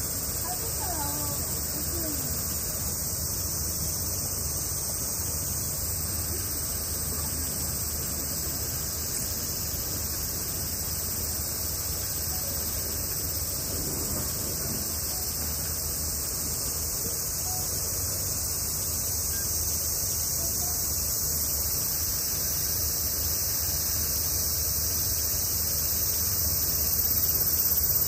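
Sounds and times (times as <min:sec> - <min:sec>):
cicada chorus hiss: 0:00.0 - 0:28.0.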